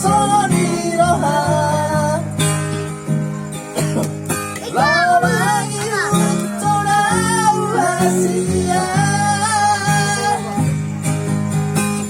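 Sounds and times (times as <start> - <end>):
plucked guitar: 0.0 - 12.0.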